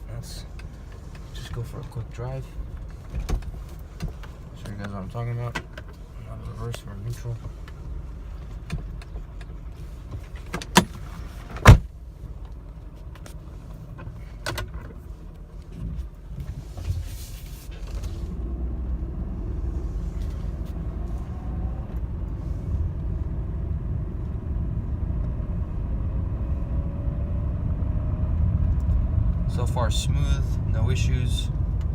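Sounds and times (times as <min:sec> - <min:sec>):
car driving rumble: 0:00.0 - 0:31.9
car engine idling: 0:00.0 - 0:31.9.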